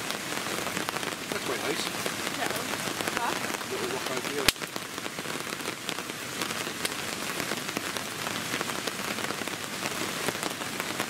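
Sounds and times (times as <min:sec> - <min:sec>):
heavy rain on a tarp: 0:00.0 - 0:11.0.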